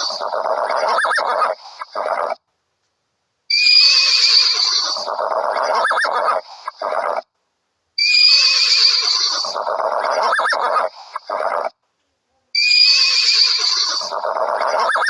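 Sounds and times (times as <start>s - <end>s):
animal squealing call: 0.0s - 2.4s, 3.5s - 7.2s, 8.0s - 11.7s, 12.6s - 15.0s.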